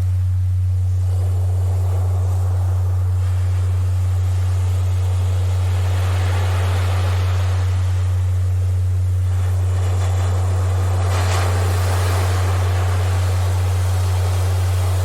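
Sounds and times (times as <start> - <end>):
steady low tone: 0.0 - 15.0
ocean surf: 0.8 - 15.0.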